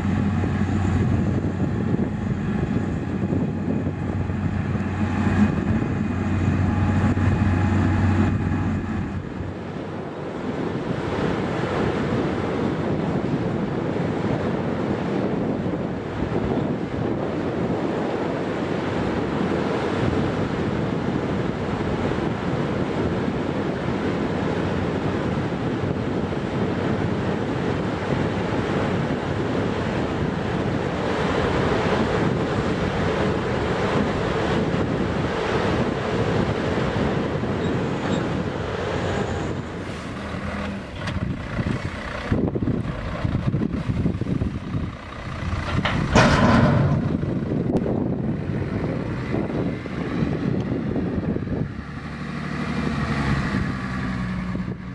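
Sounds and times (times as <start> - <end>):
harvester running under load: 0.0 - 54.9
truck diesel engine: 0.0 - 54.9.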